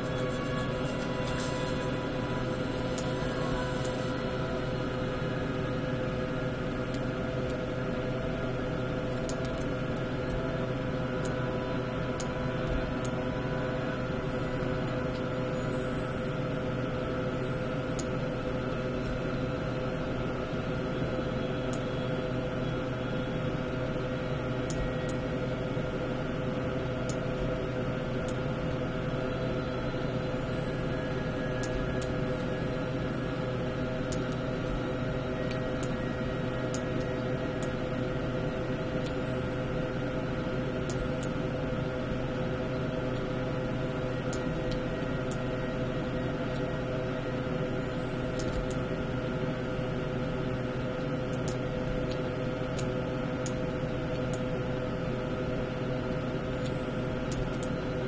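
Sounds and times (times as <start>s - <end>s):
steady hum with held tones: 0.0s - 58.0s.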